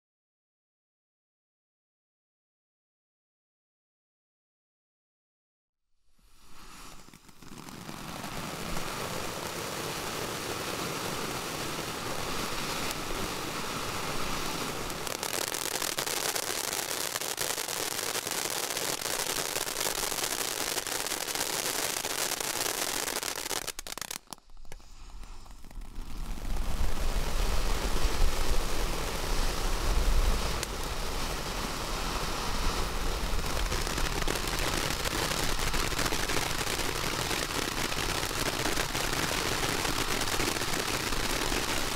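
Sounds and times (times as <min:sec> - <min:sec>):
firework hissing and crackling: 0:06.1 - 0:41.9.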